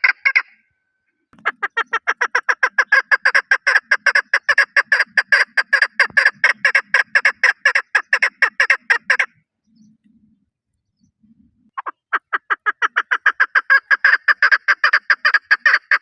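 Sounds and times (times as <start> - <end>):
partridge calling: 0.0 - 0.7, 1.4 - 16.0.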